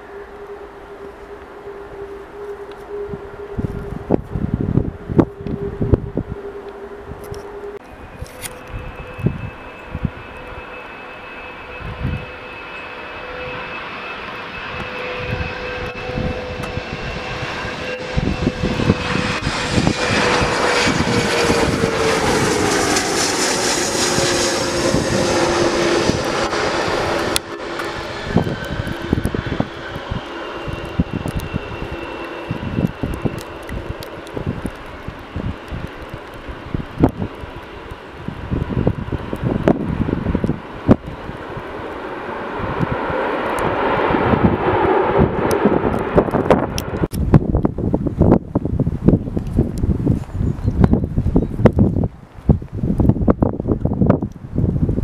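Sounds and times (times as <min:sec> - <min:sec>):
jet engines whining: 0:00.0 - 0:52.1
wind buffeting microphone: 0:00.9 - 0:10.8, 0:11.6 - 0:12.6, 0:14.4 - 0:55.0.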